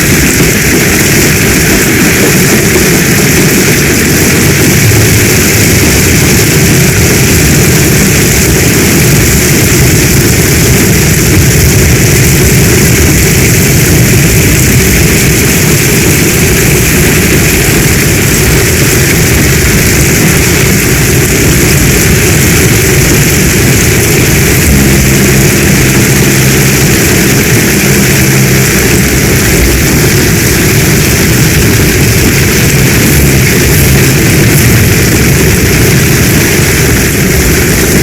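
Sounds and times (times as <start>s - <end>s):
deep low rumble: 0.0s - 38.0s
heavy storm rain: 0.0s - 38.0s
low droning tone: 0.0s - 38.0s.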